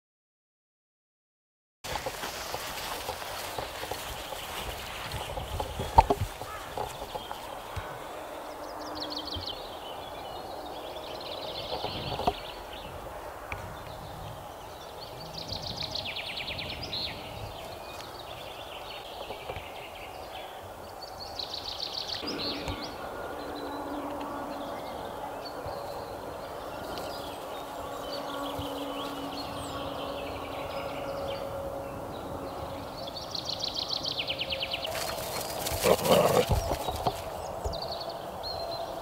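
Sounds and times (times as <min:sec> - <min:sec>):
outdoor background noise: 0:01.8 - 0:39.0
small birds trilling: 0:02.3 - 0:13.0, 0:13.8 - 0:39.0.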